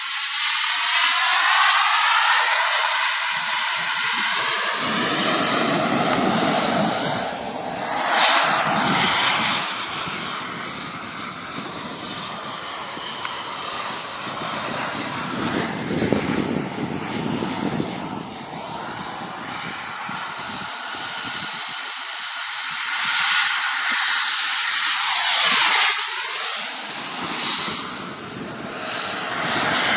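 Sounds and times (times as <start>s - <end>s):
jet engines roaring overhead: 0.0s - 29.9s.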